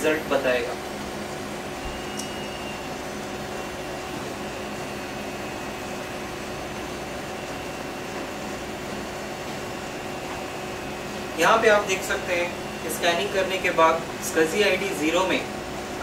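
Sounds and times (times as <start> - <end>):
computer cooling fans humming: 0.0 - 16.0
faint high whine: 1.6 - 16.0.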